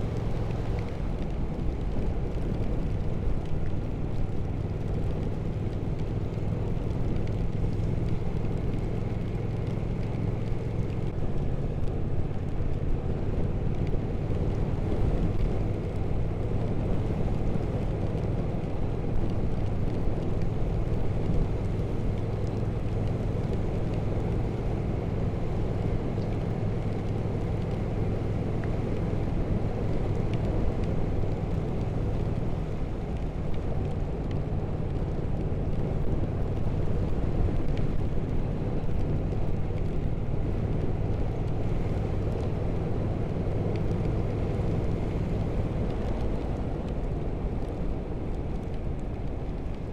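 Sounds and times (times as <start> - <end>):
wind and road noise: 0.0 - 49.9.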